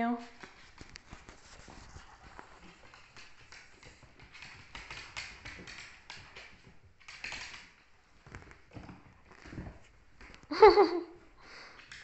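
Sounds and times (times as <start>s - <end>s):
puppy claws tapping on wooden floor: 0.2s - 10.5s.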